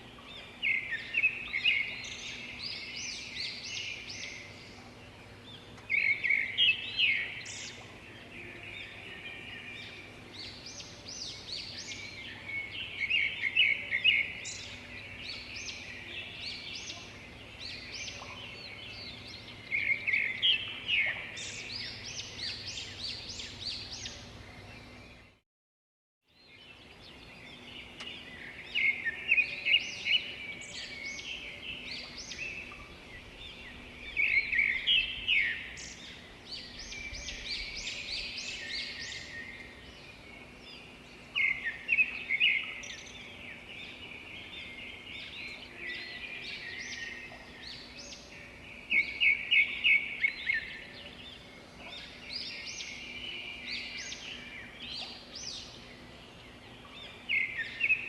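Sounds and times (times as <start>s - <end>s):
songbirds chirping and trilling: 0.0s - 25.4s, 26.3s - 58.0s.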